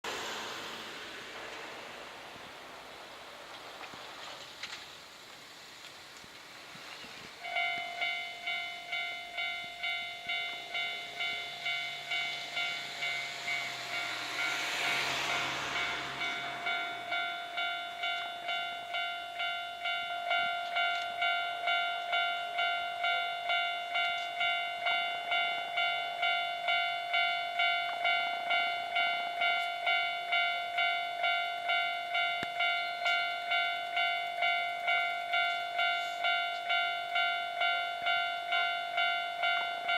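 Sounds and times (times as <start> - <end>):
level crossing bell dinging: 7.4 - 39.9.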